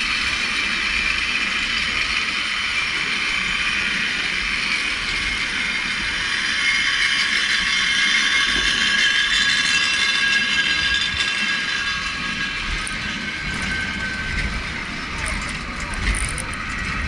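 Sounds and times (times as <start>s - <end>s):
funicular car mechanical whine: 0.0s - 17.0s.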